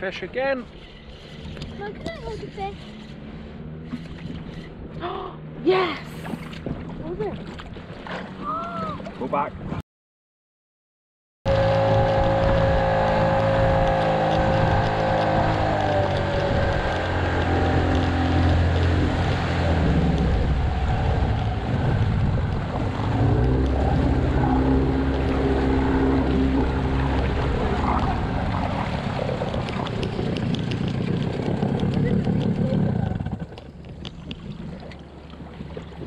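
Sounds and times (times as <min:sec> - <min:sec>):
outboard motor running: 0:00.0 - 0:09.7, 0:11.5 - 0:36.0
water rushing in wake: 0:00.0 - 0:09.8, 0:11.5 - 0:36.0.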